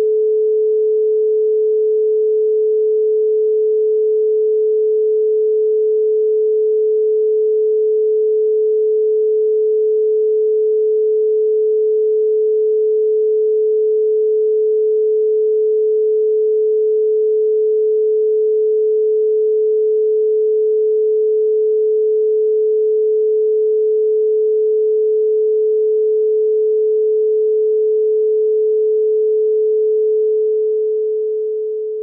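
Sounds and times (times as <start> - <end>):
steady sine tone: 0.0 - 32.0.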